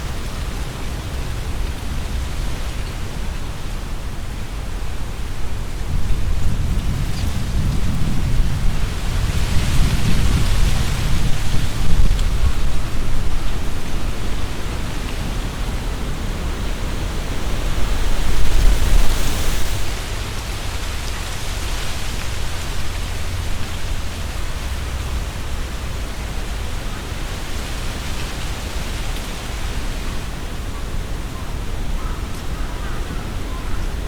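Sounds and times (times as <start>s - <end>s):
wind buffeting microphone: 0.0s - 32.3s
wind gusting through leaves: 0.0s - 34.0s.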